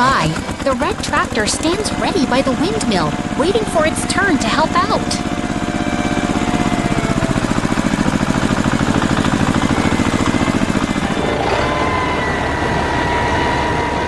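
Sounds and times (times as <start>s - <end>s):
steady high tone: 0.0s - 14.0s
tractor engine chugging: 0.0s - 14.0s.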